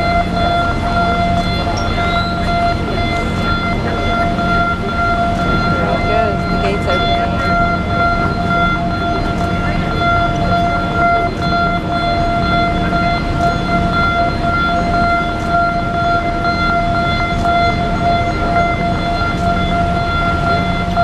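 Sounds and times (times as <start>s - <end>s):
steady high-pitched tone: 0.0s - 21.0s.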